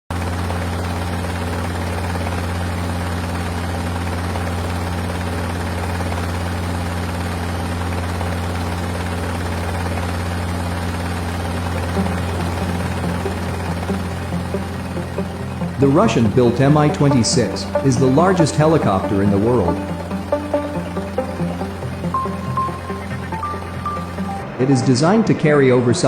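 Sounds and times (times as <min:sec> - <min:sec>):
helicopter rotor drone: 0:00.1 - 0:25.0.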